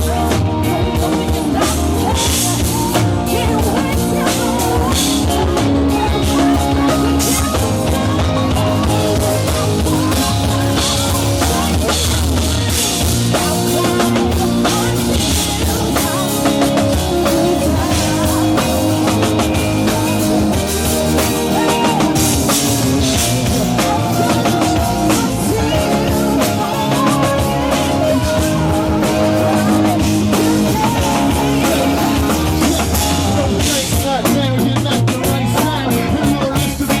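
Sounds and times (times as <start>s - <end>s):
drum kit: 0.0s - 37.0s
live rock band playing: 0.0s - 37.0s.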